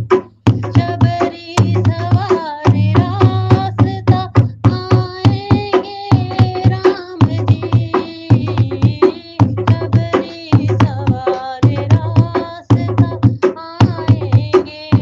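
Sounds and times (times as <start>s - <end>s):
hand drum strokes: 0.0s - 15.0s.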